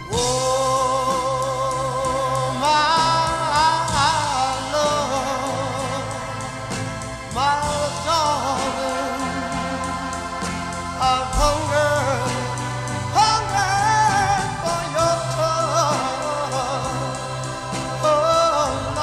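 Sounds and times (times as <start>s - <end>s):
instrumental backing: 0.0s - 19.0s.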